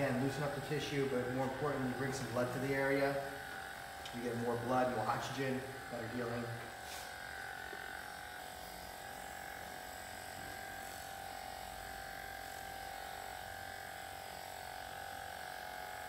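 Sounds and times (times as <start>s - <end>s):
electric massager buzzing: 0.0s - 16.0s.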